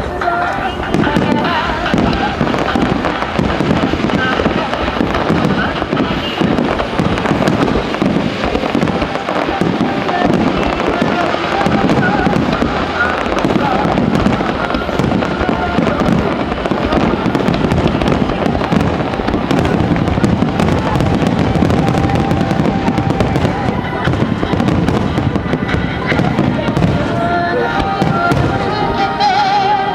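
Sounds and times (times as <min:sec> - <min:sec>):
fireworks booming: 0:00.0 - 0:29.9
fireworks crackling: 0:00.0 - 0:29.9.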